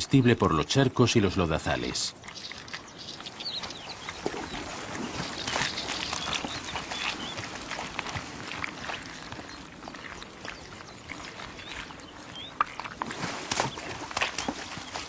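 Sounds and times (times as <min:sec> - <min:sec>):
mud squelching and splashing: 0:01.4 - 0:15.0.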